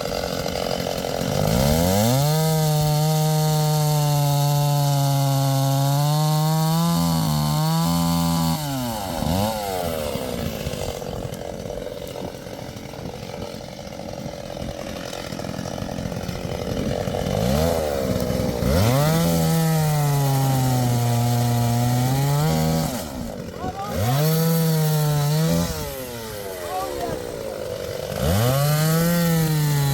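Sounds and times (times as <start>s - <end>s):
chainsaw engine running: 0.0s - 29.9s.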